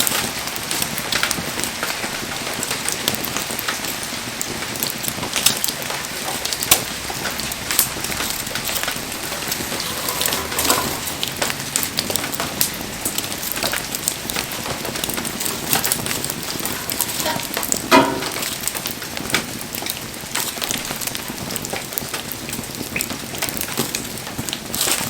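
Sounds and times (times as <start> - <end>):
bonfire crackling and popping: 0.0 - 25.0.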